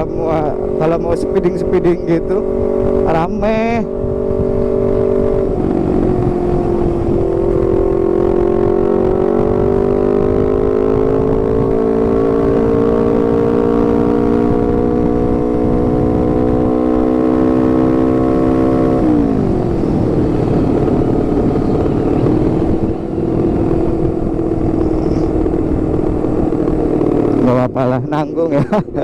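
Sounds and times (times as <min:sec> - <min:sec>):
motorcycle engine droning: 0:00.0 - 0:29.0.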